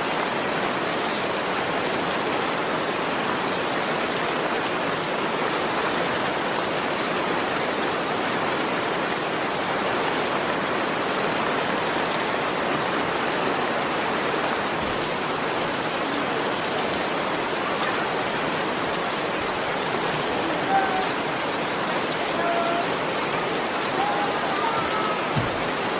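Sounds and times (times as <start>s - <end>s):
heavy rain: 0.0s - 25.9s.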